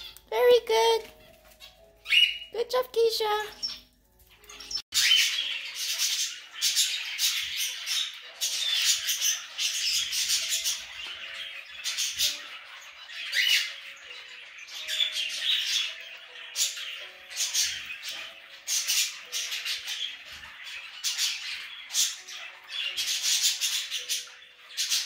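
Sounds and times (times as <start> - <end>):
cockatiels chattering and squawking: 0.8 - 2.5, 3.3 - 25.0.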